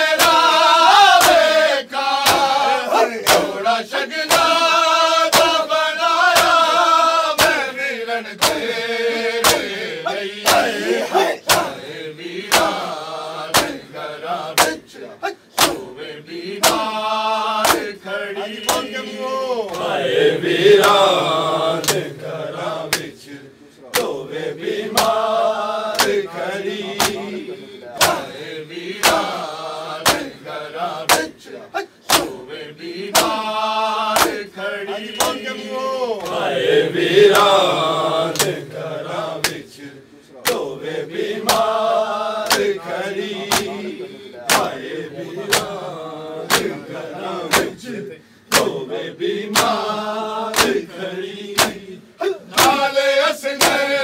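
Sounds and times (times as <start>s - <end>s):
men slapping chests: 0.0s - 36.6s, 37.2s - 47.9s, 48.5s - 50.9s, 51.5s - 52.9s, 53.5s - 54.0s
group chanting: 0.0s - 54.0s.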